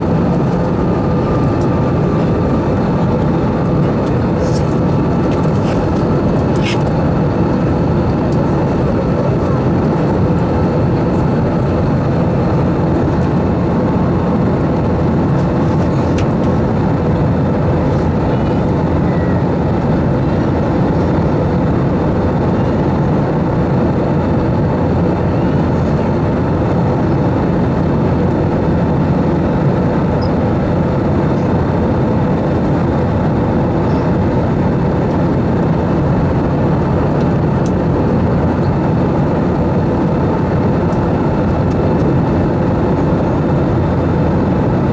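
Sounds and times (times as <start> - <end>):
jet engines humming: 0.0 - 44.9
rushing airflow in aircraft cabin: 0.0 - 44.9.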